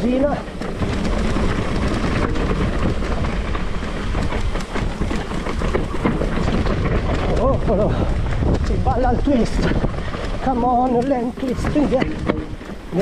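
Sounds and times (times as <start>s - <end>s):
bike chain and frame rattling: 0.0s - 13.0s
bike tyres over loose stones: 0.0s - 13.0s.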